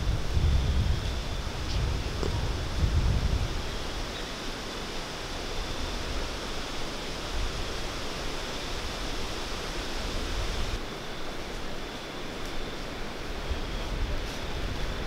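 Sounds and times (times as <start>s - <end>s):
wind rumble on microphone: 0.0s - 10.8s, 13.2s - 15.0s
wind rushing in woods: 0.0s - 15.0s.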